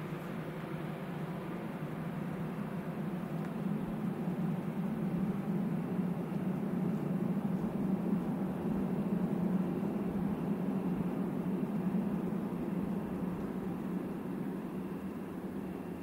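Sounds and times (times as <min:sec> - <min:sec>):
distant freight train rumble: 0:00.0 - 0:16.0.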